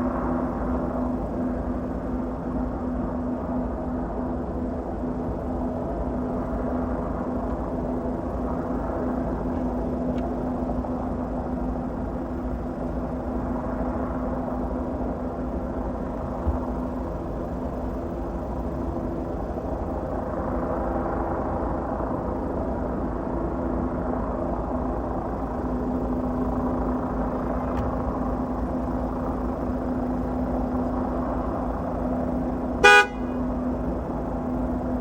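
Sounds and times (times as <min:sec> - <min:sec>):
engine drone: 0:00.0 - 0:35.0.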